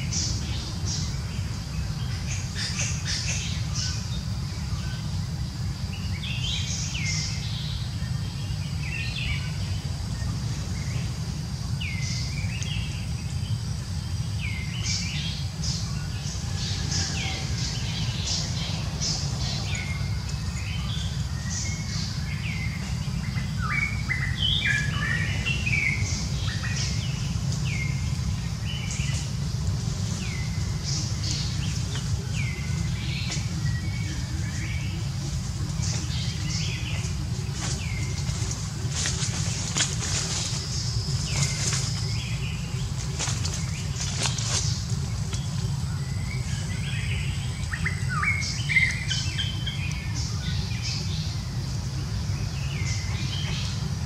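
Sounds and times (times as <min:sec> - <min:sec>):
birds chirping: 0:00.0 - 0:54.0
steady low rumble: 0:00.0 - 0:54.0.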